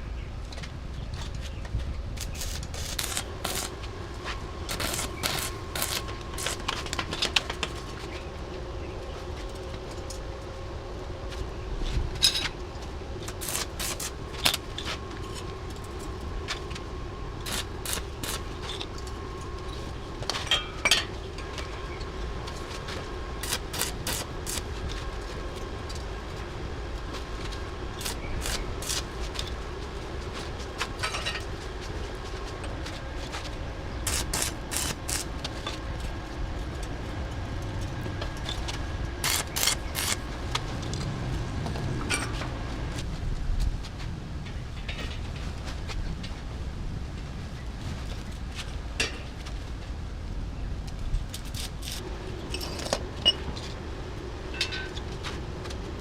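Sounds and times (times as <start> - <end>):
steady hum and low rumble: 0.0 - 56.0.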